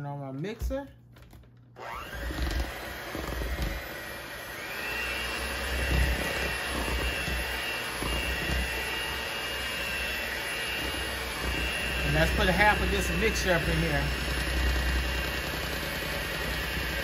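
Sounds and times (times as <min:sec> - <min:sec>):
beaters churning batter in metal bowl: 0:01.8 - 0:17.0
electric hand mixer whining: 0:01.8 - 0:17.0.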